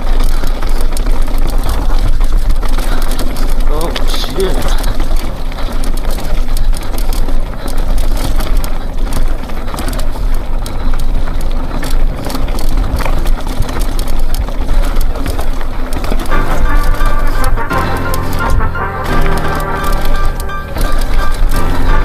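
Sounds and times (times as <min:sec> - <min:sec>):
bike rattles and knocks: 0:00.0 - 0:22.0
tyre noise on rough ground: 0:00.0 - 0:22.0.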